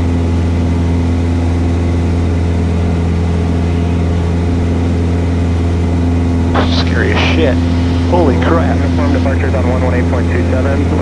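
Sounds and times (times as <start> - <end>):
airplane engine droning in cabin: 0.0 - 11.0.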